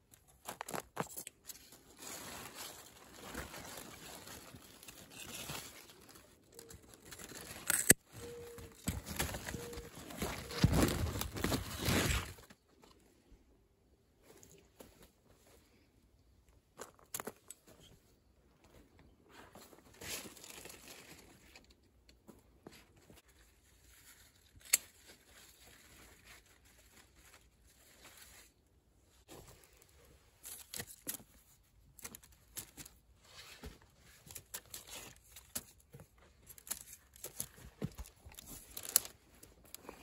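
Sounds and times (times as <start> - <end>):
vines and leaves rustling: 0.1 - 13.1, 18.6 - 40.0.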